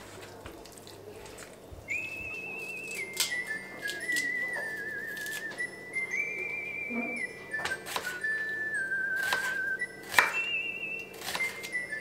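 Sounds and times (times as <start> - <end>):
person whistling a tune: 1.9 - 12.0.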